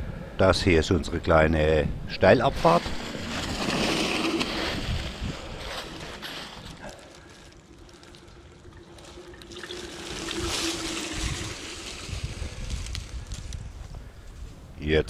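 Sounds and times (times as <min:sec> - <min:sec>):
bike tyres crunching on dirt: 0:02.5 - 0:14.6.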